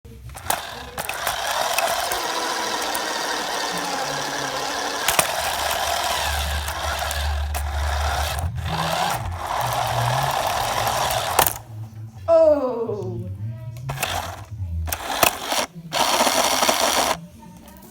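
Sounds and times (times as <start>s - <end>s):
toy car motor and gears: 0.0s - 11.9s, 13.8s - 17.9s
clicks: 0.1s - 12.0s, 13.8s - 17.9s.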